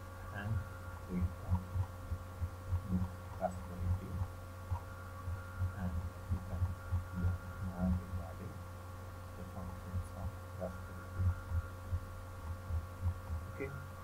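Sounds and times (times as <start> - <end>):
electrical hum: 0.0 - 14.0
soft low thumps: 0.0 - 14.0.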